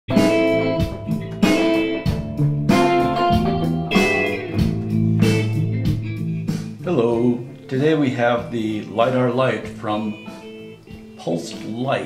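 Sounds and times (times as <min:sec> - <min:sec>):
strummed guitar chords: 0:00.1 - 0:12.0.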